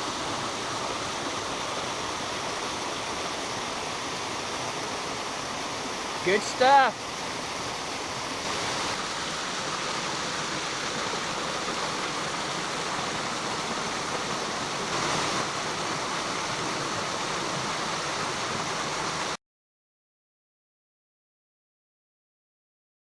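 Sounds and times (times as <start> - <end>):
stream rushing over rocks: 0.0 - 19.4.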